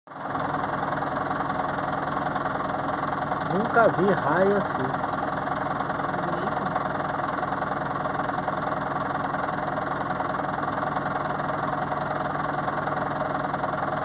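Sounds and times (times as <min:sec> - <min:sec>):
engine idling: 0:00.1 - 0:14.0.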